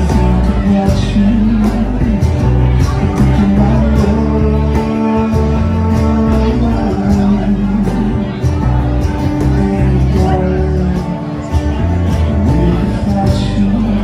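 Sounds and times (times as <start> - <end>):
cajon beat: 0.0 - 14.0
electric bass: 0.0 - 14.0
strummed acoustic guitar: 0.0 - 14.0.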